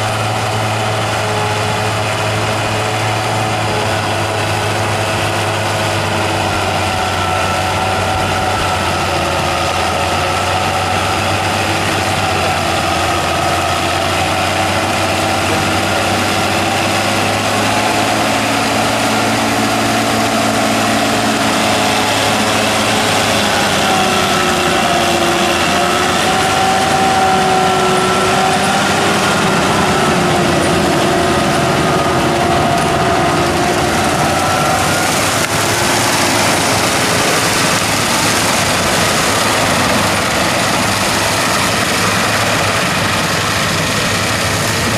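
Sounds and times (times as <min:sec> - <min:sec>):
tractor engine running under load: 0:00.0 - 0:44.9.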